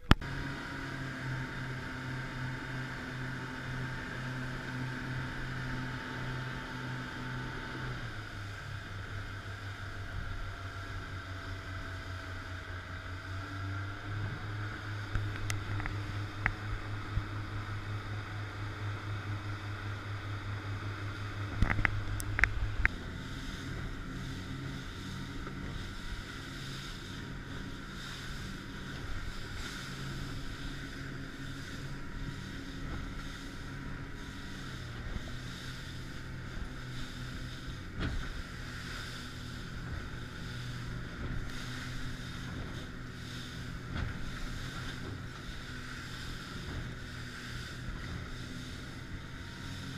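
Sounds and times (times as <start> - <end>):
outboard motors running: 0.0 - 49.9
rush of boat wake: 0.0 - 49.9.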